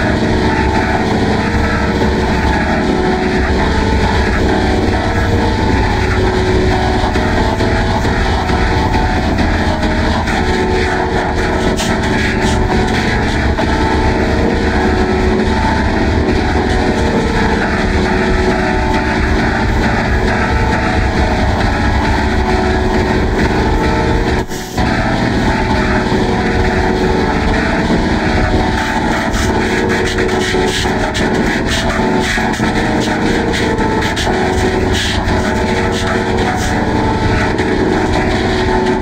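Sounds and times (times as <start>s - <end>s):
distorted noise drone: 0.0s - 39.0s
steady tones: 0.0s - 39.0s.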